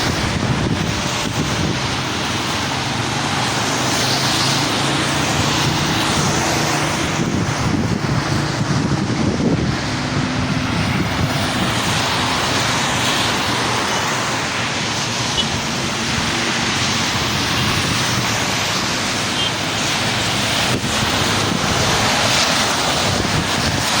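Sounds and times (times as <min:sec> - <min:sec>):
steady rain falling: 0:00.1 - 0:24.0.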